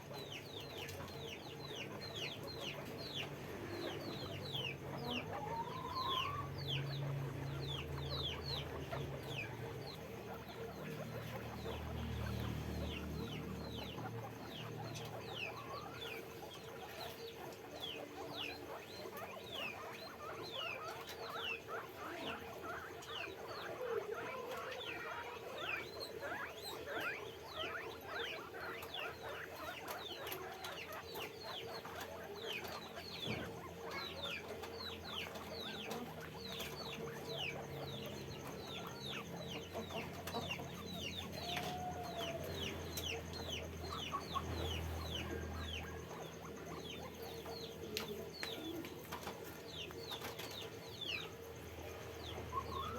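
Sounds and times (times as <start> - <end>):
guinea pigs squeaking: 0.0 - 52.9.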